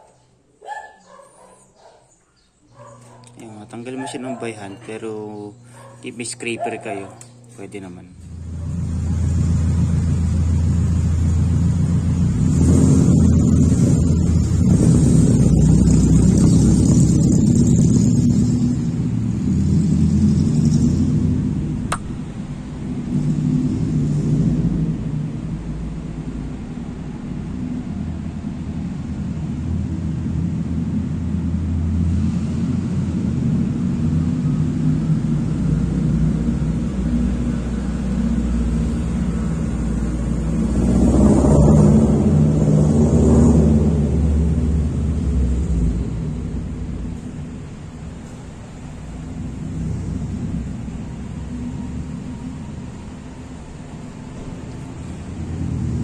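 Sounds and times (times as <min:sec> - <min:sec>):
car engine low drone: 0:00.0 - 0:56.0.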